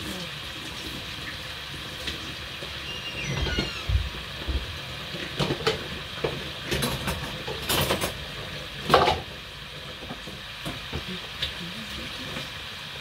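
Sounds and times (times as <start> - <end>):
plantains sizzling in hot oil: 0.0 - 13.0.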